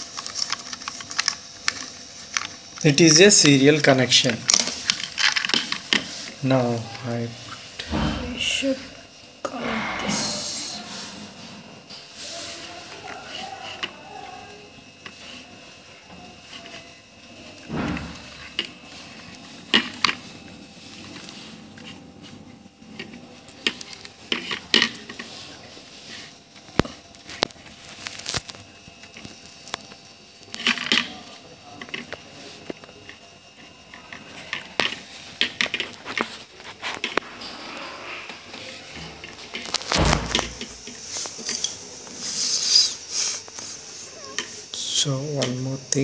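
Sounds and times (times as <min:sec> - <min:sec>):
wires rustling and scraping: 0:00.0 - 0:46.0.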